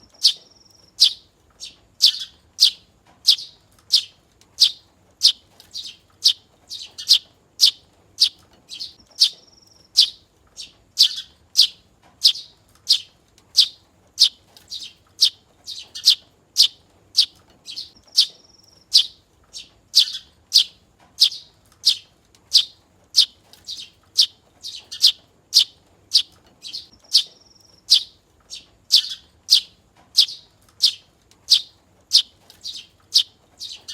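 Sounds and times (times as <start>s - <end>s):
young sparrow chirping: 0.0s - 33.9s.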